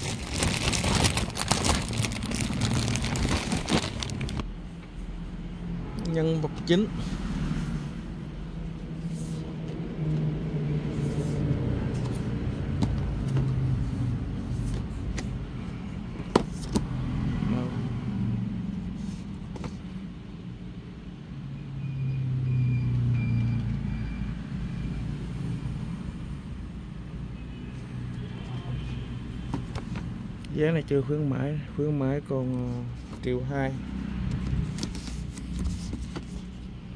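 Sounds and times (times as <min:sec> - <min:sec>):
road traffic rumble: 0:00.0 - 0:36.9.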